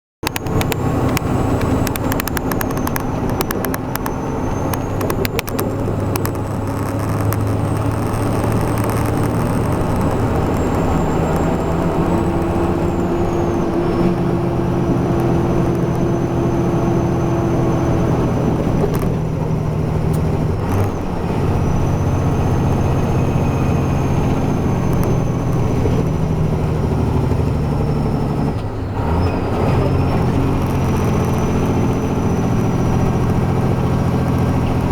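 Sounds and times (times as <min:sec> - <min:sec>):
diesel truck engine running: 0:00.2 - 0:34.9
road noise: 0:00.2 - 0:34.9.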